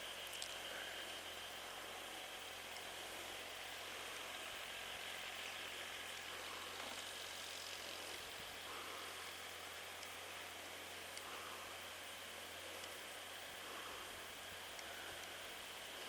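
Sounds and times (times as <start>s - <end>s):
distant tractor engine hum: 0.0s - 16.0s.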